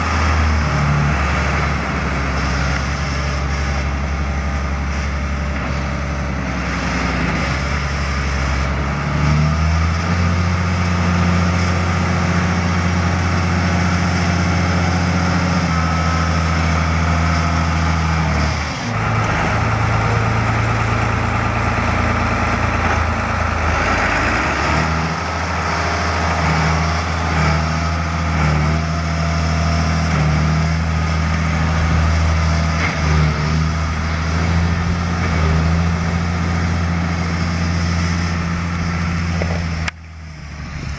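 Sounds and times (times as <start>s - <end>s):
tractor diesel engine driving by: 0.0s - 40.9s.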